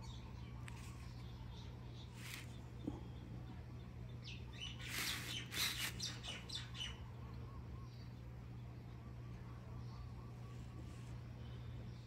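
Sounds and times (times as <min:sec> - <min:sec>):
birds chirping: 0:00.0 - 0:12.0
low steady hum: 0:00.0 - 0:12.0.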